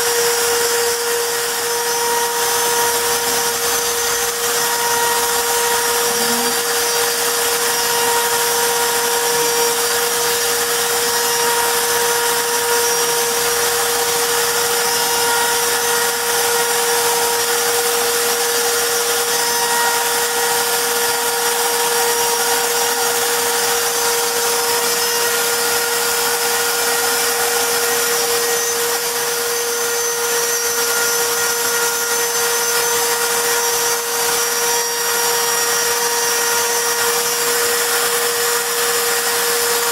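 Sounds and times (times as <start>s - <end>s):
cnc router spindle whining: 0.0s - 39.9s
hiss of wood cutting: 0.0s - 39.9s.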